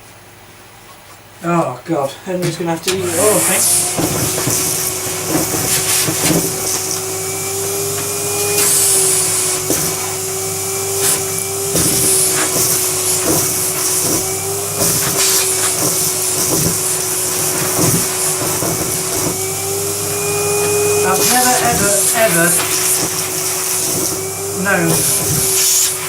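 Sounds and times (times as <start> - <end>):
vacuum cleaner whine: 1.4 - 26.0
bursts of hiss: 2.4 - 26.0.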